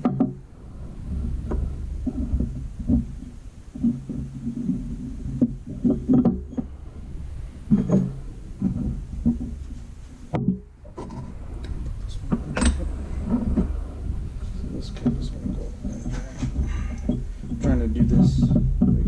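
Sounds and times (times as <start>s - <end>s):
metal parts knocking and clunking: 0.0s - 0.5s, 1.3s - 19.0s
low steady hum: 0.0s - 19.0s.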